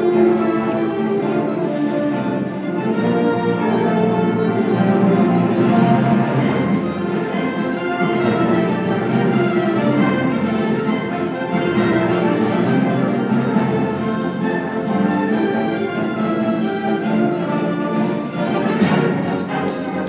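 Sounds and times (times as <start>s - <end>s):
symphonic band playing held chords: 0.0s - 20.0s.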